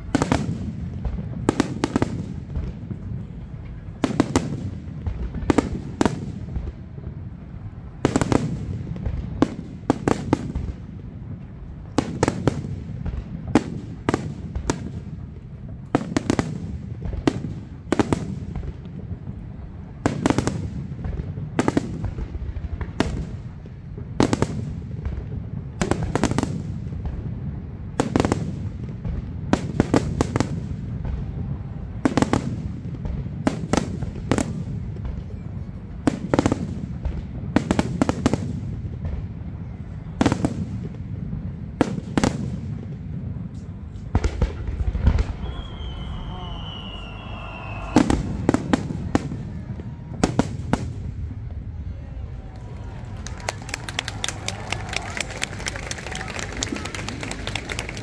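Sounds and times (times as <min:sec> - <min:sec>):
fireworks bursting bangs: 0:00.0 - 0:58.0.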